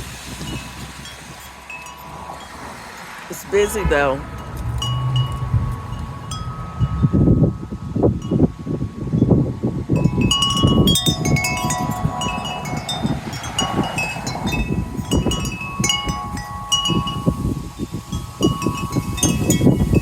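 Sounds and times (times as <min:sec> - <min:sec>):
gusty wind rumble: 0:00.0 - 0:20.0
wind chimes ringing: 0:00.4 - 0:20.0.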